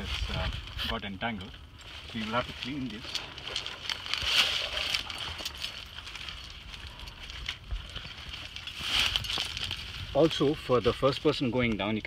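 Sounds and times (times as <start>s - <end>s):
rope crackling and rubbing: 0.0s - 12.0s.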